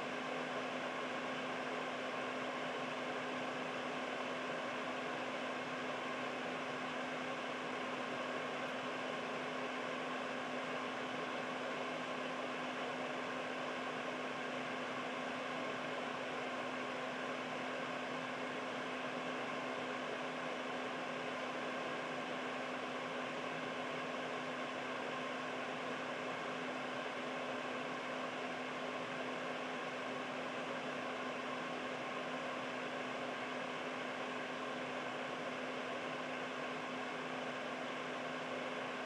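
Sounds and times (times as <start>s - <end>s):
air purifier fan running: 0.0s - 39.0s.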